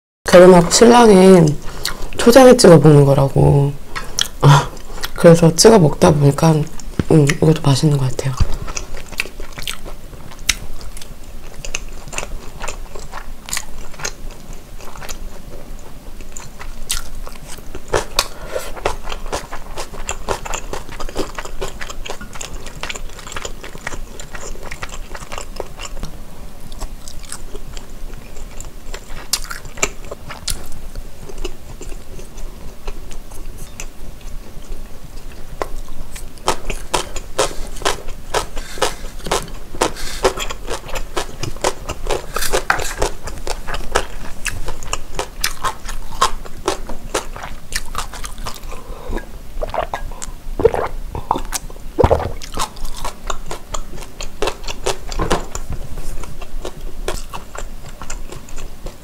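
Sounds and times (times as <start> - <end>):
wet chewing with clicks: 8.2 - 59.0.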